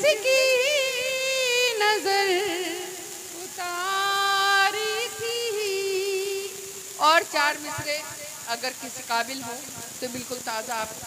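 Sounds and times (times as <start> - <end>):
woman singing into a microphone: 0.0 - 11.0.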